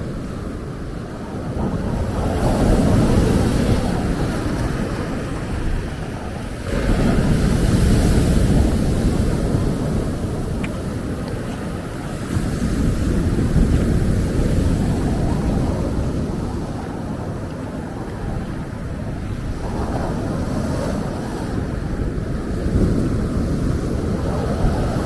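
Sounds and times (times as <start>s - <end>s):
ocean waves breaking on beach: 0.0s - 25.0s
wind rumbling on microphone: 0.0s - 25.0s.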